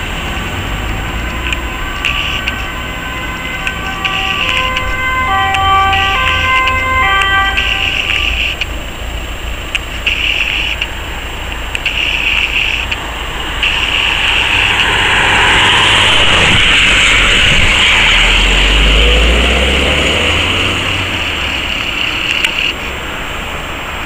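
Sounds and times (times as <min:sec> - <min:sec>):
ambulance passing with deep rumble: 0:00.0 - 0:24.0.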